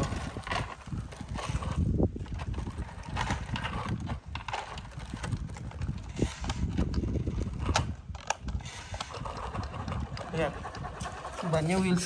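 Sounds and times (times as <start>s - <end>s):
toy car motor whirring and rattling: 0.0s - 12.0s.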